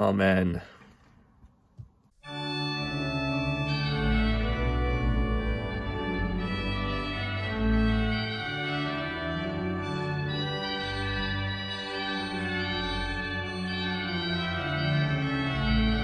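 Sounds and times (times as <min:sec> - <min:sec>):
organ music: 0:02.2 - 0:16.0.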